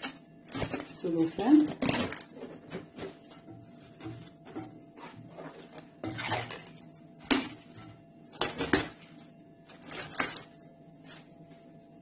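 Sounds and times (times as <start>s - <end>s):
cling film rustling and crinkling: 1.8s - 11.8s.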